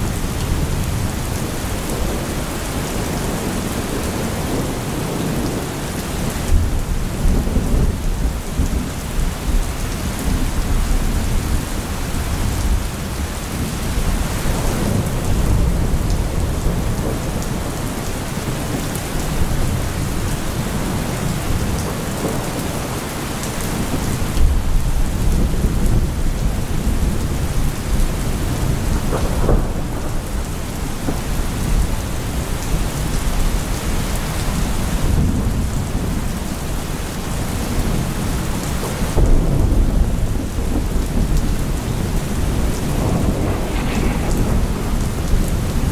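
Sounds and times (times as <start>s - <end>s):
heavy rain: 0.0s - 45.9s
low rolling thunder: 0.0s - 45.9s.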